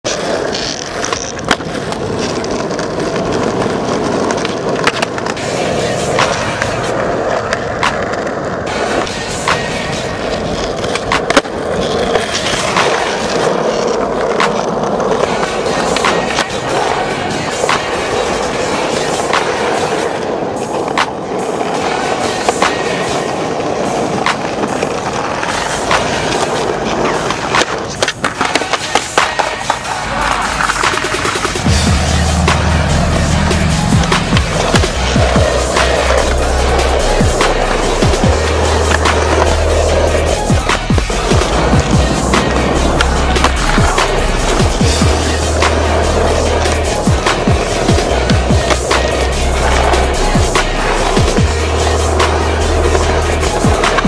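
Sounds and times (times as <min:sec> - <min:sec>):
skateboard clacks: 0:00.0 - 0:54.0
skateboard wheels rolling on asphalt: 0:00.0 - 0:54.0.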